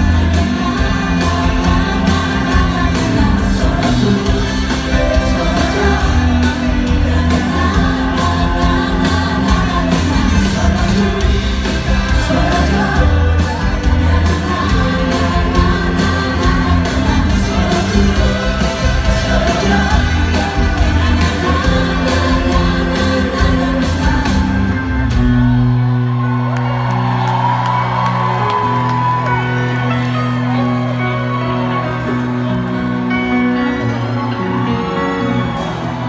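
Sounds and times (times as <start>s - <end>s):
live pop band with singers: 0.0s - 36.0s.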